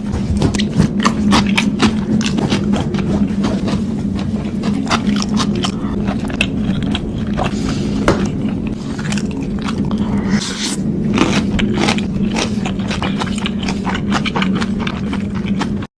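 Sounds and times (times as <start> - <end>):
steady low hum: 0.0 - 15.9
slurping noodles: 1.2 - 15.8.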